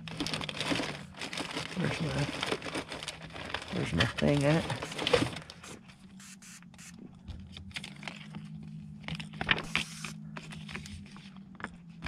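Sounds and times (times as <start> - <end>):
paper sticker crinkling and scraping: 0.0 - 11.7.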